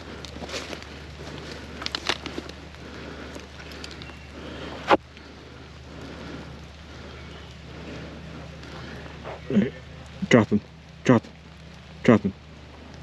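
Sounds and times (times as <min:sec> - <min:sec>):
rustling hiss: 0:00.0 - 0:13.0.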